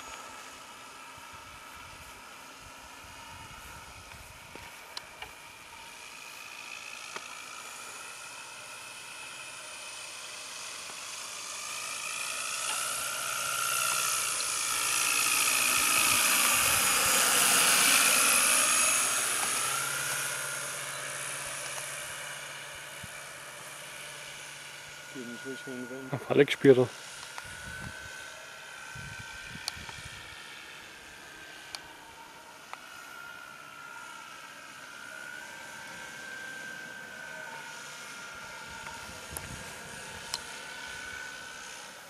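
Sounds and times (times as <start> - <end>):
model plane propeller buzzing: 0.0 - 42.0.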